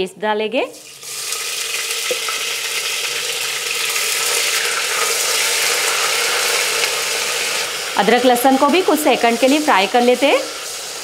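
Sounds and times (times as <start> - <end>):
paste sizzling in hot oil: 0.8 - 11.0.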